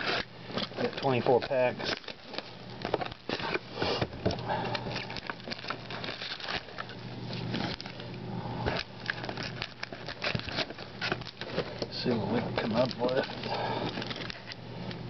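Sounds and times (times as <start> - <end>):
foil card packs crinkling: 0.0 - 15.0.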